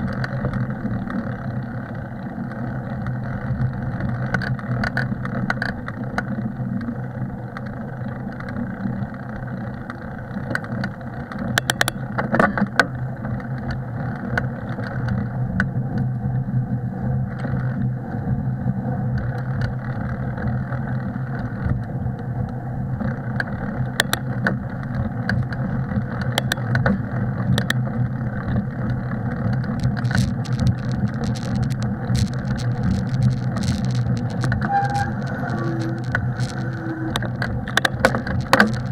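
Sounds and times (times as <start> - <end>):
bike clicks and rattles: 0.0 - 6.9, 7.5 - 16.1, 23.0 - 38.9
bicycle rolling on snow: 0.0 - 38.9.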